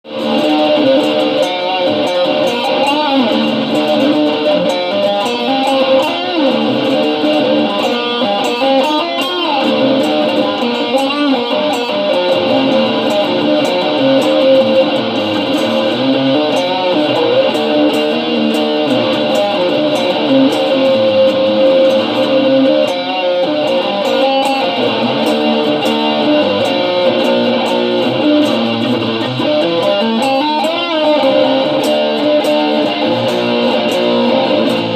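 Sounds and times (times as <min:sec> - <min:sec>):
guitar improvisation: 0:00.0 - 0:34.9.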